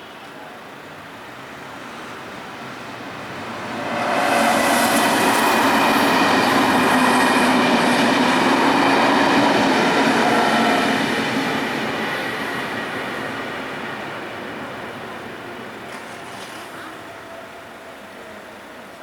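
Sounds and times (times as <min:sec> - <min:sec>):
electric train passing: 0:00.8 - 0:16.4.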